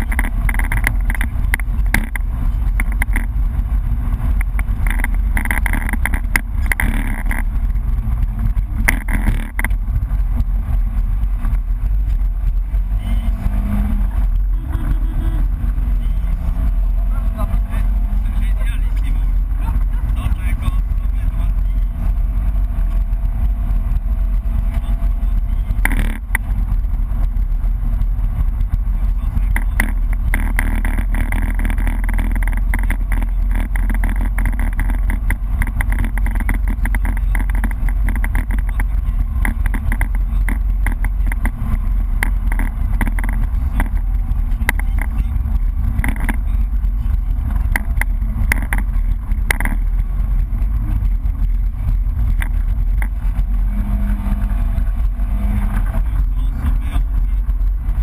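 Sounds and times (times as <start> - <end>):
car engine running hard: 0.0 - 58.0
road and tyre noise: 0.0 - 58.0.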